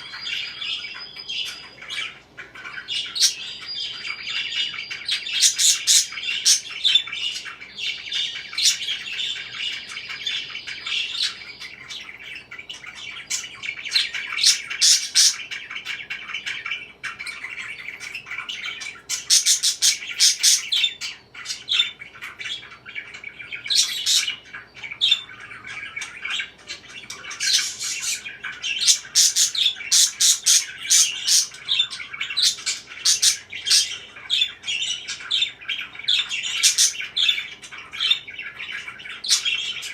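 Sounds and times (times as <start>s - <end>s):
parakeets chirping and chattering: 0.0s - 39.9s
parakeets squawking: 0.0s - 39.9s.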